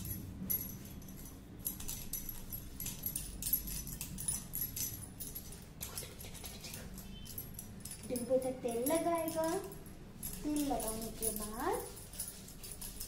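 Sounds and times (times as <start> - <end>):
bangles jingling: 0.0 - 13.0.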